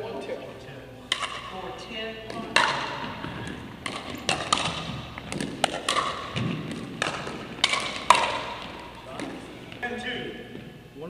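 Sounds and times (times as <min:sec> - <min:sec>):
ball bouncing: 0:01.1 - 0:10.8
paddles hitting plastic ball: 0:01.1 - 0:10.8.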